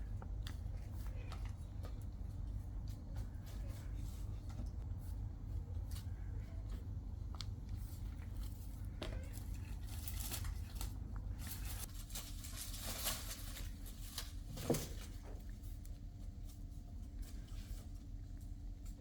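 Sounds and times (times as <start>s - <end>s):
soft rustling and scratching: 0.0s - 19.0s
steady low hum: 0.0s - 19.0s.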